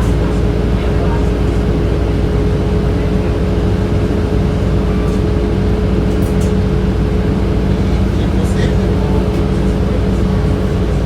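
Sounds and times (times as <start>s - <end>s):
bus air-conditioning whirring drone: 0.0s - 11.0s
low rumble of bus: 0.0s - 11.0s.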